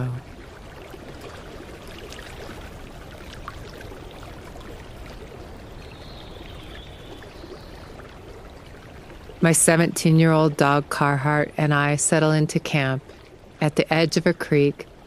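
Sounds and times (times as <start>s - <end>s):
water flowing over stones: 0.0s - 15.0s.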